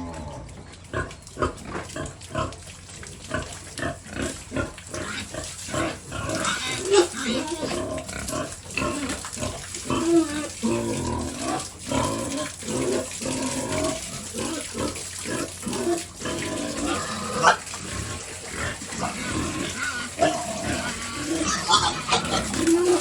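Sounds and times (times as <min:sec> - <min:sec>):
pigs grunting: 0:00.0 - 0:23.0.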